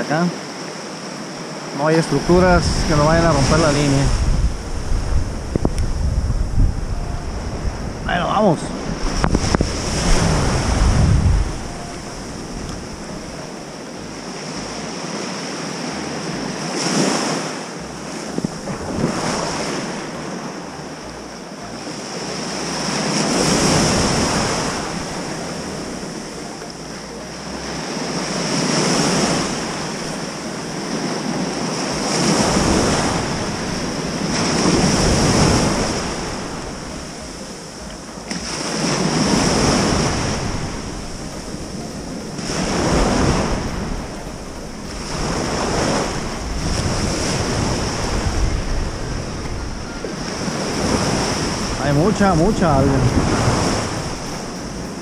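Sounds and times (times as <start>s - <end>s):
ocean surf breaking: 0.0s - 55.0s
wind rumble on microphone: 2.1s - 55.0s.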